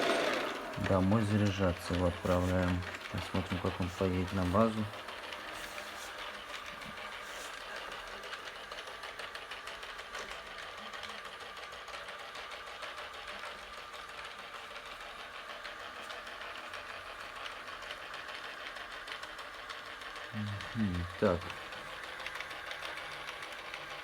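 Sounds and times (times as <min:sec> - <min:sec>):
robot vacuum whirring: 0:00.0 - 0:24.0.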